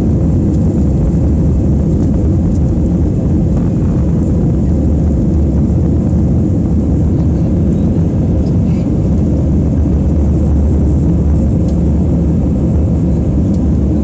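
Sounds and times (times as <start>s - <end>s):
jet engines and airflow in cabin: 0.0s - 14.0s.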